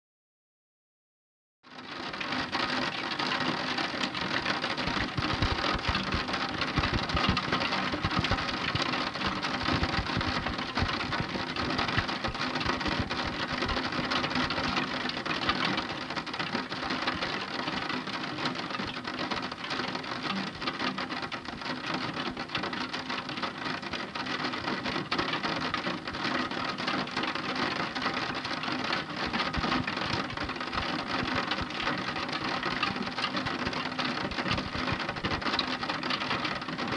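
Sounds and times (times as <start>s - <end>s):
heavy rain falling: 2.0s - 36.9s.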